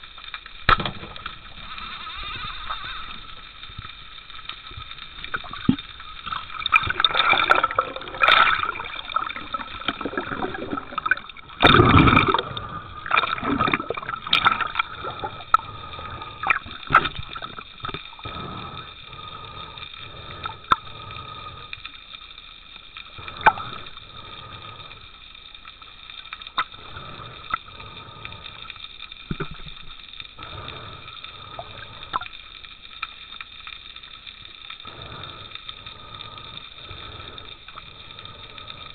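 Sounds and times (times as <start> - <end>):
water rushing and gurgling underwater: 0.0 - 38.9.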